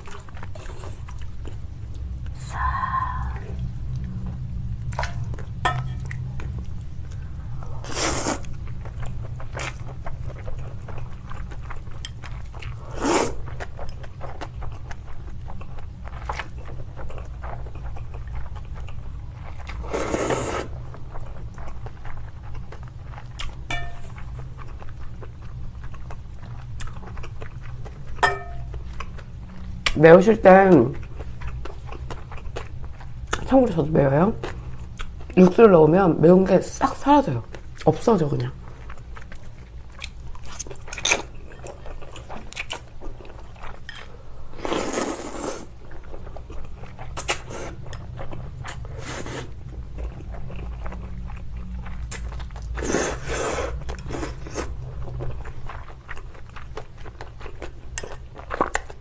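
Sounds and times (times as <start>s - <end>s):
chewing: 3.5s - 30.0s, 31.0s - 33.5s, 37.4s - 59.0s.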